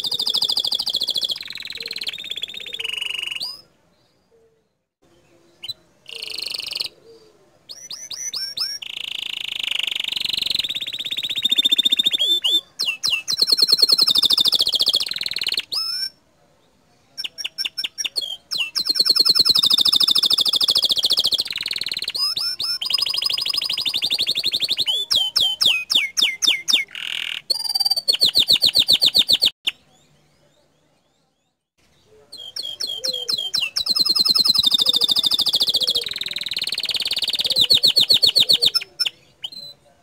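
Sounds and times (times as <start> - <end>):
canary singing trills: 0.0 - 16.2, 17.1 - 39.9.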